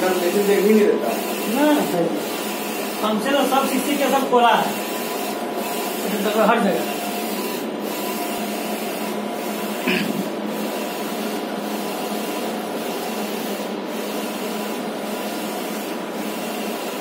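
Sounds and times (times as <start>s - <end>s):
printer whirring hum: 0.0s - 17.0s.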